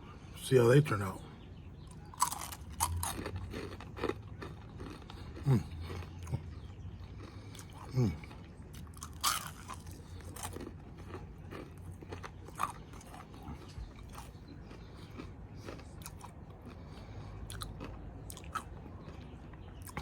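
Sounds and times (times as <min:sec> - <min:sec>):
crunchy chewing: 0:01.8 - 0:20.0.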